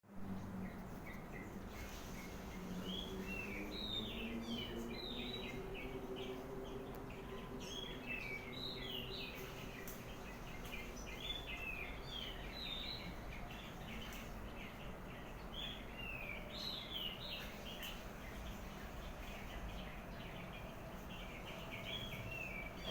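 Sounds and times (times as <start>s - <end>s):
low background hum: 0.1s - 22.9s
birds chirping: 0.2s - 22.9s.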